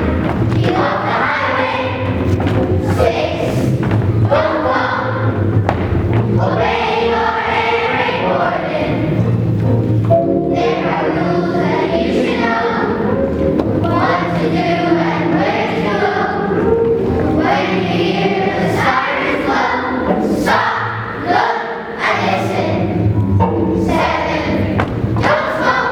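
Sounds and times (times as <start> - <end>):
children singing in unison: 0.0 - 9.3, 10.4 - 23.1, 23.7 - 25.9
musical accompaniment: 0.0 - 25.9.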